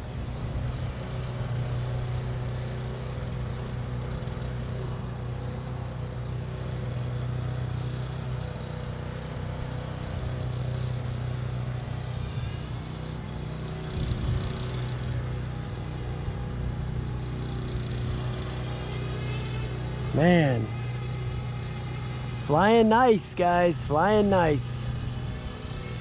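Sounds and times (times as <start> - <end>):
drone propellers humming: 0.0 - 26.0.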